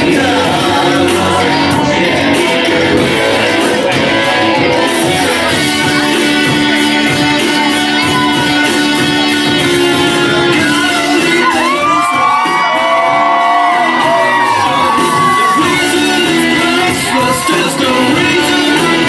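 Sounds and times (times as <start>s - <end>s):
loud music with steady beat: 0.0s - 19.0s.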